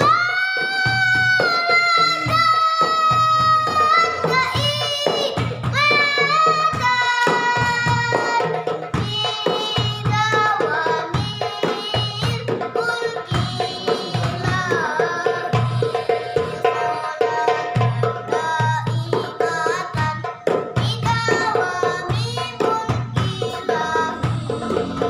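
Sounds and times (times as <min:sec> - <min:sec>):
boy singing ornamented melody: 0:00.0 - 0:25.0
frame drums beating: 0:00.0 - 0:25.0.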